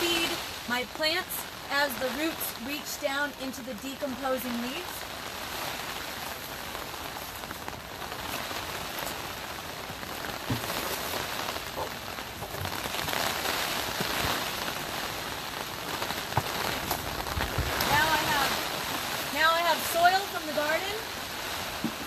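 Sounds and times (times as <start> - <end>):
rain on plastic cover: 0.0 - 22.0.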